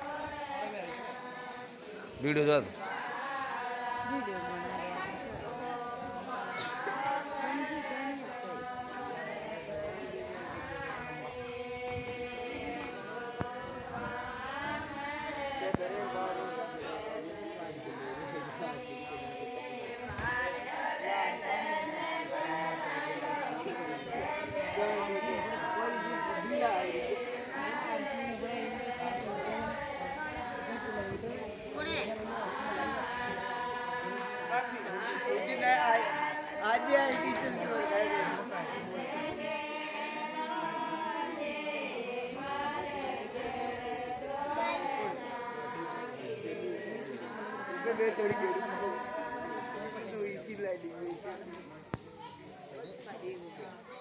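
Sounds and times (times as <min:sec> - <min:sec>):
women singing folk song unaccompanied: 0:00.0 - 0:50.4.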